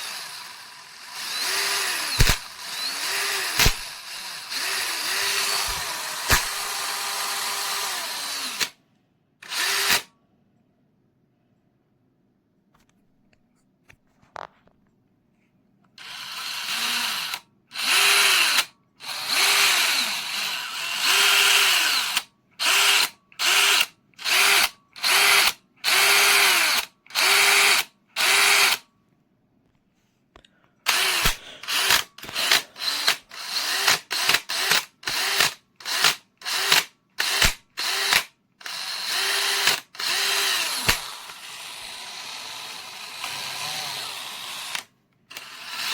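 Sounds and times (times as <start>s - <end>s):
cordless drill bursts: 0.0s - 8.8s, 9.4s - 10.1s, 16.0s - 28.8s, 30.9s - 45.9s.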